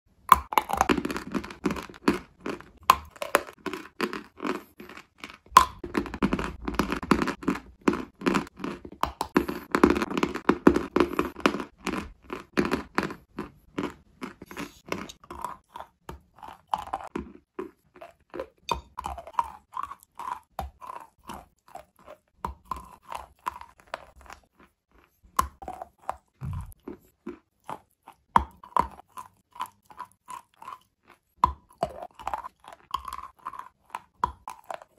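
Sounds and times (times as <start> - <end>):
chalk crunching while chewed: 0.3 - 34.9.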